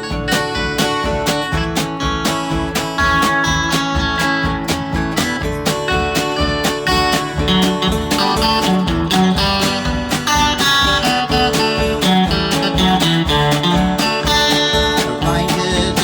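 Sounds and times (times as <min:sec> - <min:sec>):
country band playing: 0:00.0 - 0:16.0
low bass notes: 0:00.0 - 0:16.0
strummed acoustic guitar: 0:00.0 - 0:16.0.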